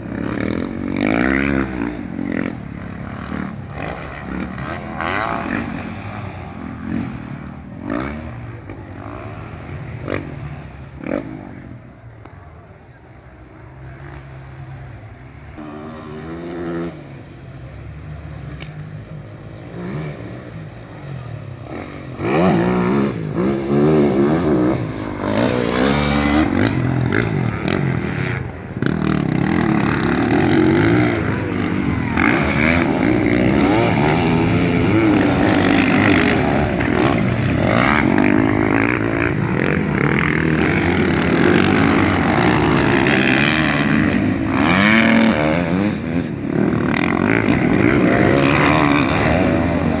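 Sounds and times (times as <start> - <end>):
racing motorcycle engines revving: 0.0 - 50.0.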